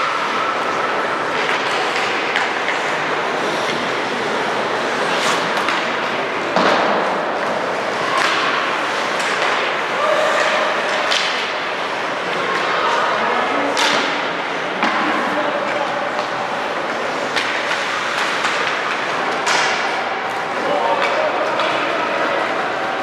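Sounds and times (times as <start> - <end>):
skates on ice: 0.0 - 23.0
spectator chatter: 0.0 - 23.0.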